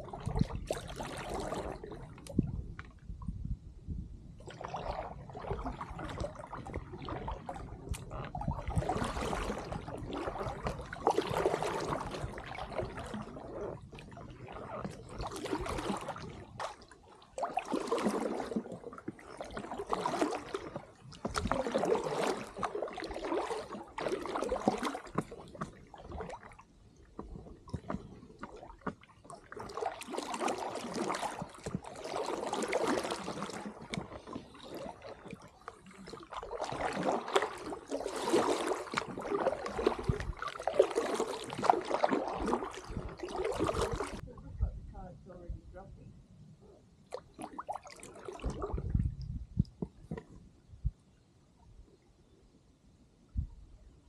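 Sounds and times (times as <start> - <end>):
water trickling off paddle: 0.0 - 3.1, 4.4 - 44.7
paddle strokes in water: 0.0 - 3.3, 4.4 - 45.9, 46.6 - 51.2.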